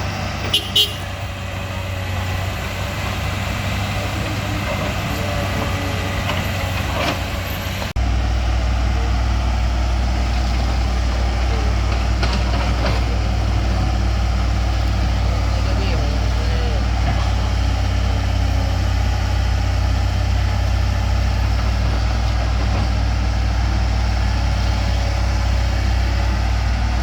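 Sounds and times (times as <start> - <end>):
truck engines humming: 0.0 - 27.0.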